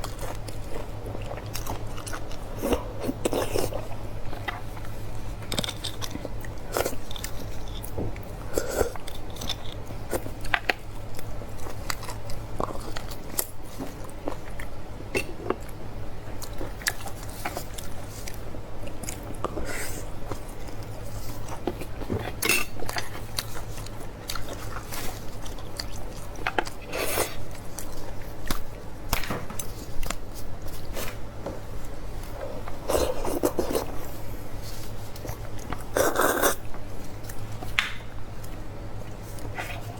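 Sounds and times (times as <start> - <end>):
chewing and crunching mouth sounds: 0.0 - 39.9.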